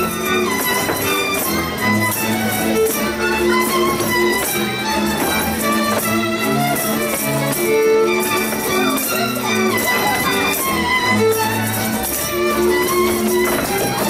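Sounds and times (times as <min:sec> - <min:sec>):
string band folk dance music: 0:00.0 - 0:14.0
violin playing dance tune: 0:00.0 - 0:14.0.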